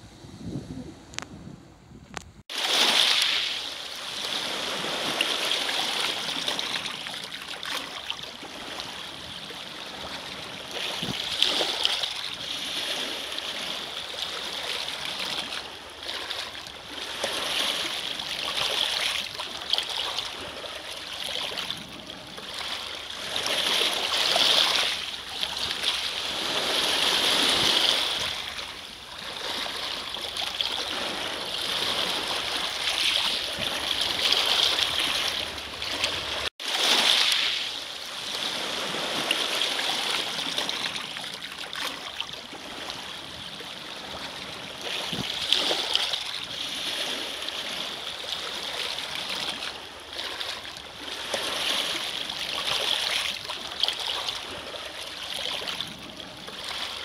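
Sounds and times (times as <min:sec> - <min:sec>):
waves washing over pebbles: 0:02.5 - 0:57.0.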